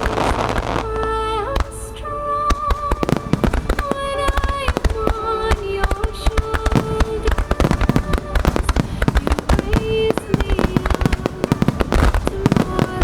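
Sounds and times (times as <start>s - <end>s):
fireworks bursting and crackling: 0.0s - 13.0s
music with long held notes: 0.0s - 13.0s.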